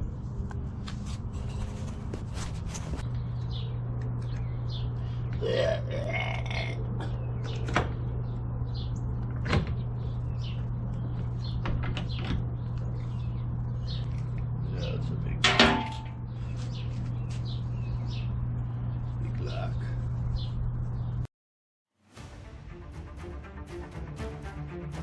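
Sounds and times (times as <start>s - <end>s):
steady low hum: 0.0s - 21.3s.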